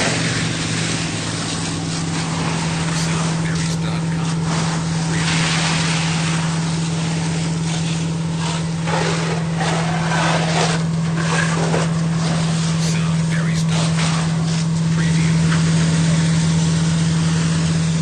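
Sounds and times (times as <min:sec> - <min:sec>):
fire engine pump humming: 0:00.0 - 0:18.0.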